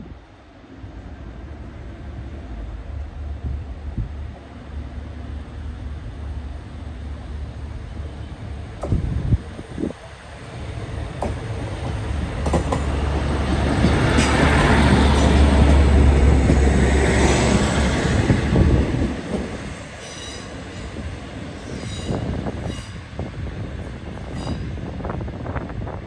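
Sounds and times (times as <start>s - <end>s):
diesel train engine droning: 0.0s - 25.9s
train wheels rumbling on rails: 0.0s - 26.0s.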